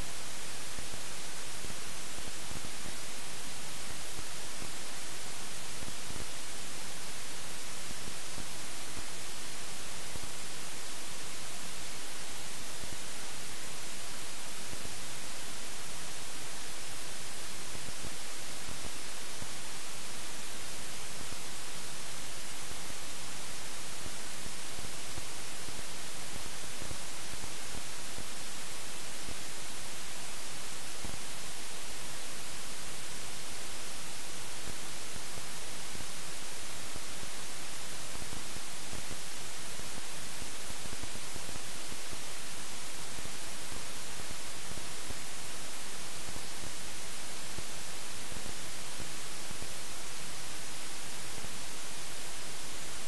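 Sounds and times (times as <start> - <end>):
static hiss: 0.0 - 53.0.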